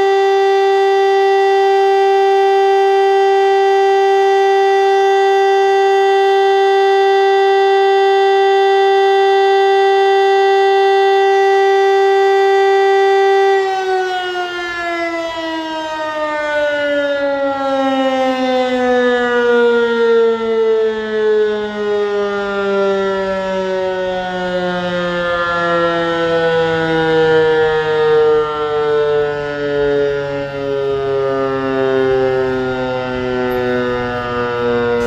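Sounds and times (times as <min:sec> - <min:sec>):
siren winding down: 0:00.0 - 0:35.0.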